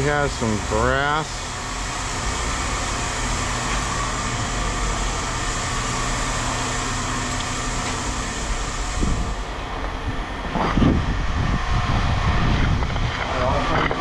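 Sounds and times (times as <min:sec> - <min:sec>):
machinery droning: 0:00.0 - 0:14.0.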